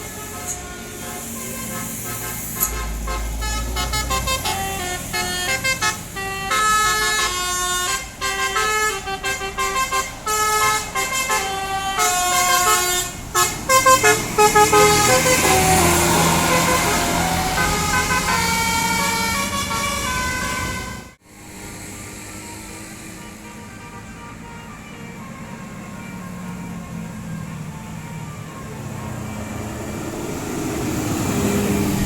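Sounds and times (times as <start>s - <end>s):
bus horn playing a tune: 0.0s - 32.0s.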